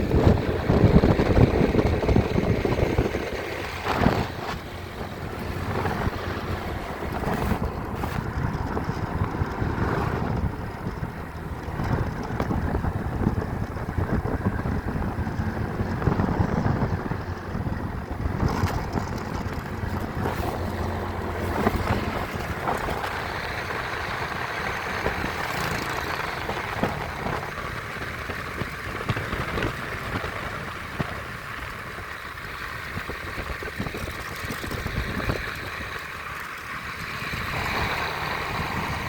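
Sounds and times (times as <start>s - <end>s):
vehicle rumbling: 0.0s - 39.0s
wind buffeting microphone: 0.0s - 39.0s.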